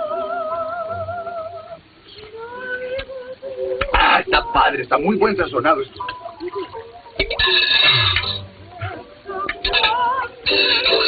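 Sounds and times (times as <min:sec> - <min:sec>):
operatic singing with music: 0:00.0 - 0:05.4, 0:06.0 - 0:11.0.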